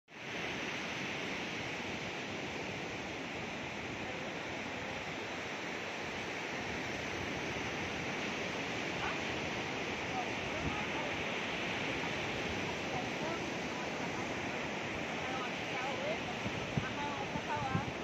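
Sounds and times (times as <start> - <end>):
ocean surf hissing: 0.1 - 18.0.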